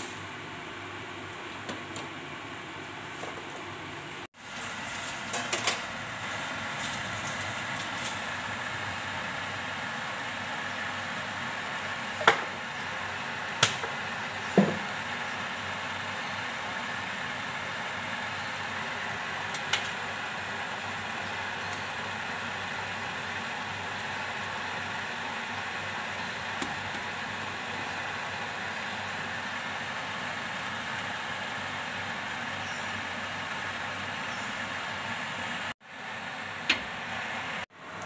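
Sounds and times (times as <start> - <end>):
water boiling on gas burner: 4.4 - 38.0.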